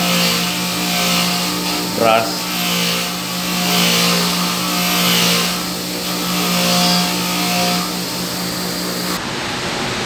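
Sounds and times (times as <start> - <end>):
bench grinder motor hum: 0.0 - 9.2
wire brush scratching metal: 0.0 - 9.2.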